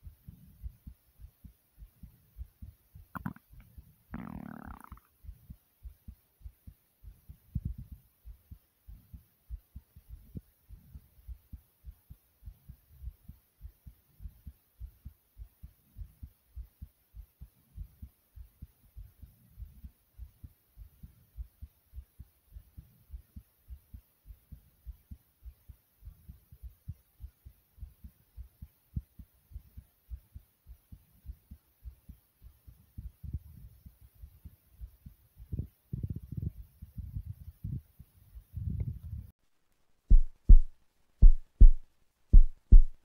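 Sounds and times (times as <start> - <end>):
heartbeat thumps: 0.0 - 39.3, 40.1 - 43.0.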